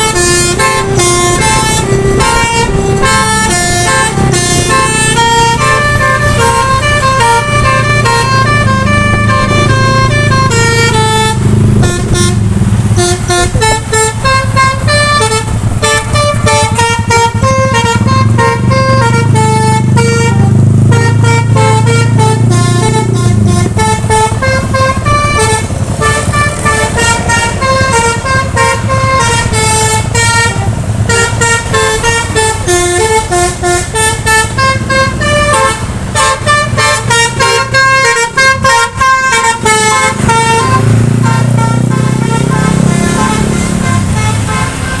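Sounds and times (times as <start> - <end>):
bus engine hum: 0.0 - 45.0
musical air horn melody: 0.0 - 45.0.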